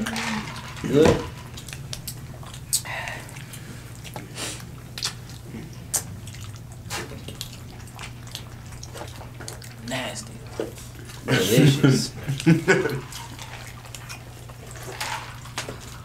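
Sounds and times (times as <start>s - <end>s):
steady low hum: 0.0s - 16.0s
wet chewing smacks and clicks: 1.5s - 11.2s, 12.3s - 16.0s.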